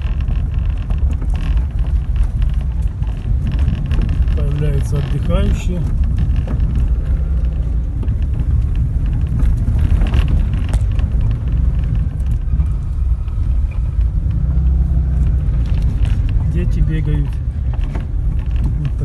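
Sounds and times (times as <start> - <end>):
jeep engine rumbling: 0.0 - 19.0.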